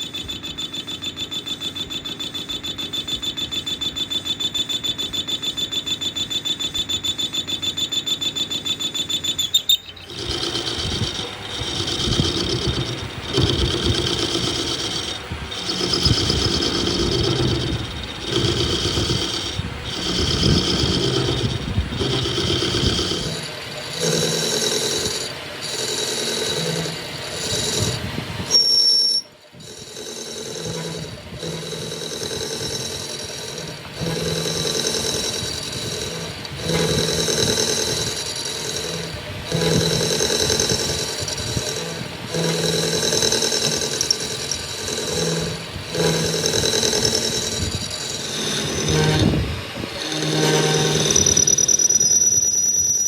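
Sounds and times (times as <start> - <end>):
hand tool scraping metal: 1.8 - 53.0.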